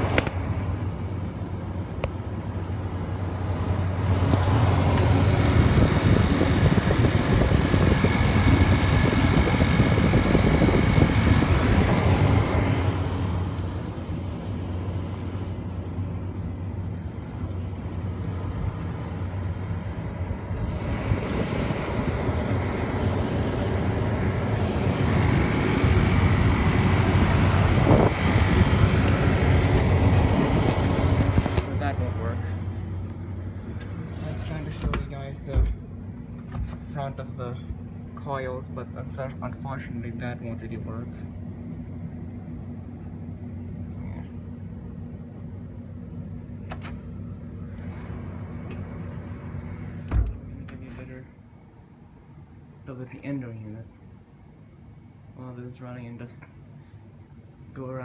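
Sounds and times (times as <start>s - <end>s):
air conditioner compressor hum: 0.0s - 58.0s
air conditioner fan rushing: 0.0s - 58.0s.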